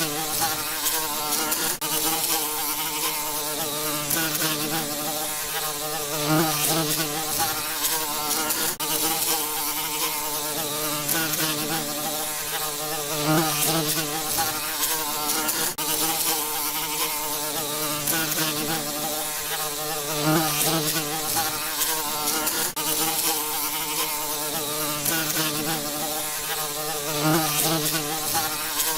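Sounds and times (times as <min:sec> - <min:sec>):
bees buzzing: 0:00.0 - 0:28.9.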